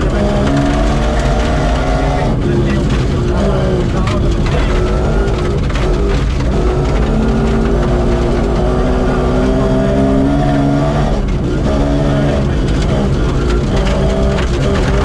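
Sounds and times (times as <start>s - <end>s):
gravel road rumble: 0.0s - 15.0s
rally car engine revving: 0.0s - 15.0s.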